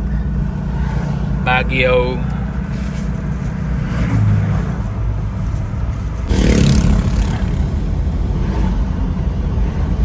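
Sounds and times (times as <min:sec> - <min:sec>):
van engine and road noise: 0:00.0 - 0:10.0.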